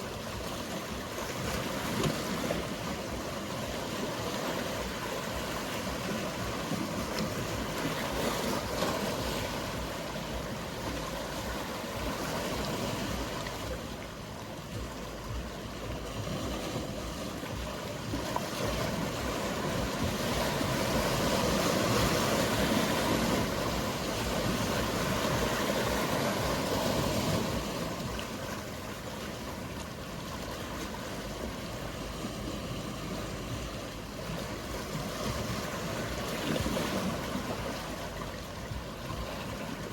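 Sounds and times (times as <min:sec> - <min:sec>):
faint boat engine hum: 0:00.0 - 0:39.9
sea waves washing: 0:00.0 - 0:39.9.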